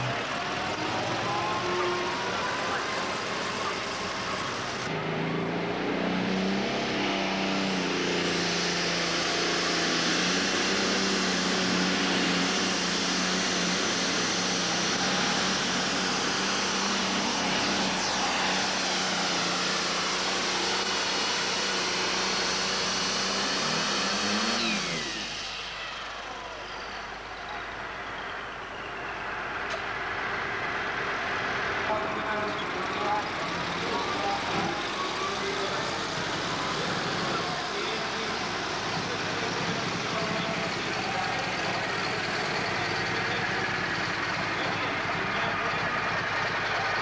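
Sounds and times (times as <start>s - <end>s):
tractor engine at full throttle: 0.0s - 47.0s.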